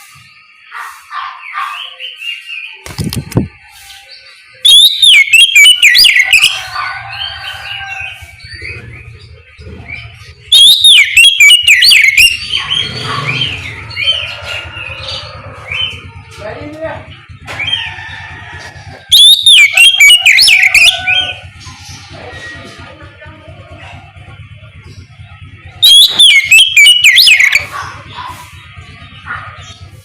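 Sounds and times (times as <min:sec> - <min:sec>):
magpie-robin singing: 0:00.1 - 0:16.3, 0:19.0 - 0:30.0.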